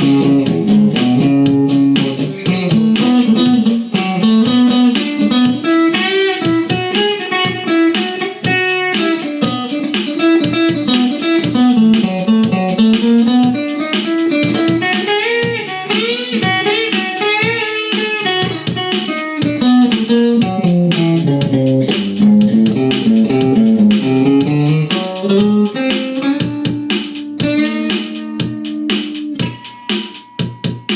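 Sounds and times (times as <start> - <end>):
electric guitar blues lead: 0.0 - 30.9.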